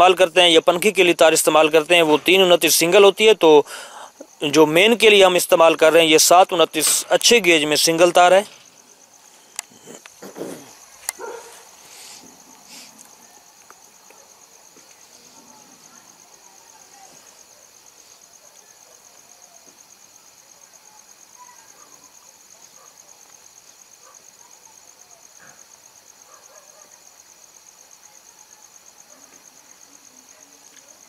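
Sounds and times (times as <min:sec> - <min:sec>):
cricket trilling: 0:00.0 - 0:31.0.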